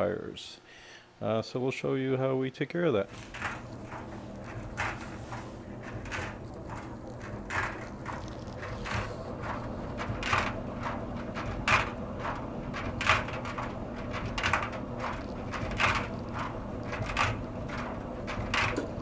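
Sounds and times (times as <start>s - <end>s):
clothes dryer humming: 2.9s - 19.0s
sharp noise from dryer drum: 3.1s - 19.0s.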